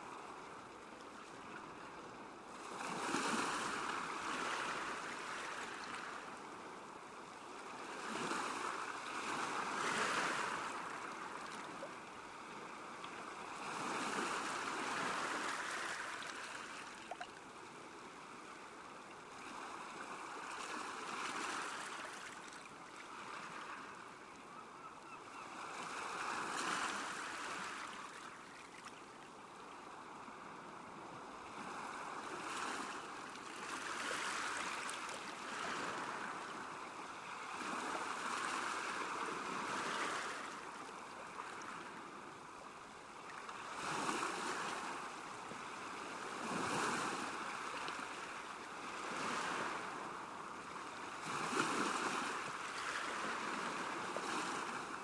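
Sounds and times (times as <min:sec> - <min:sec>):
small waves washing onto shore: 0:00.0 - 0:24.4, 0:25.3 - 0:55.0.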